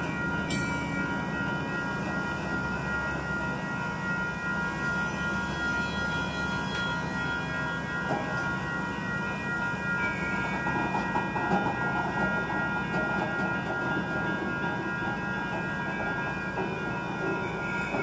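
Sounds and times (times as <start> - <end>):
crossing bell ringing rapidly: 0.0 - 18.0
freight train wheels rumbling: 0.0 - 18.0.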